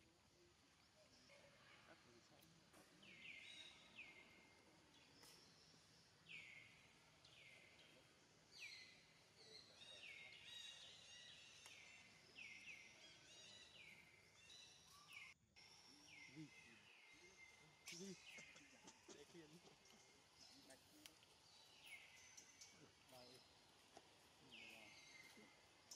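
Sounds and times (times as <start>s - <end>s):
low outdoor background: 0.0s - 25.9s.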